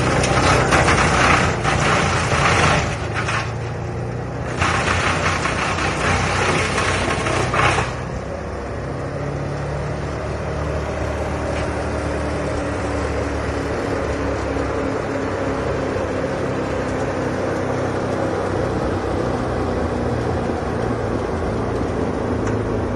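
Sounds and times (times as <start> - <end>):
wood chipper engine running: 0.0 - 22.9.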